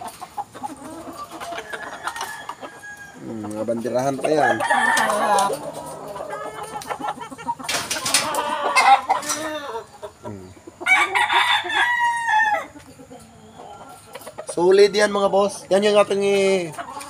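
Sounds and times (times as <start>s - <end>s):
roosters crowing: 0.0s - 17.0s.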